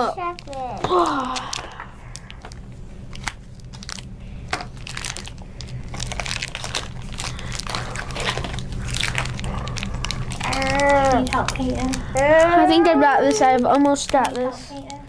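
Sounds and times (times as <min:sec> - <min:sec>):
plastic foil packets crinkling: 0:00.0 - 0:15.0.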